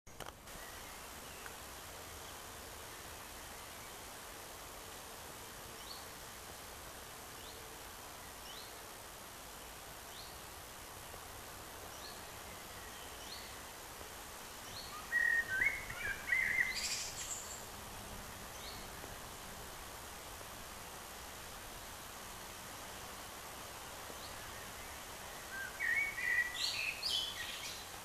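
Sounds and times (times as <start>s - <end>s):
faint hiss: 0.1s - 28.0s.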